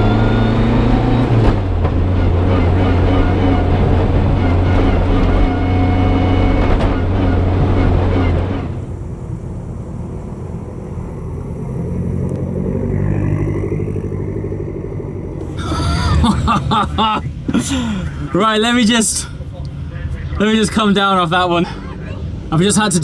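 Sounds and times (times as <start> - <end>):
rally car engine running: 0.0 - 23.0.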